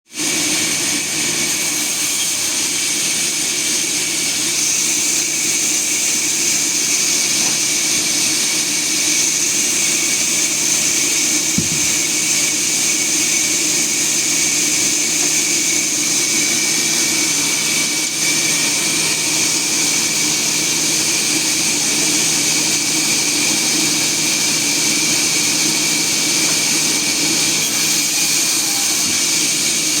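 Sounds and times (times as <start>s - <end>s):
sawmill machinery whine and hiss: 0.1s - 30.0s.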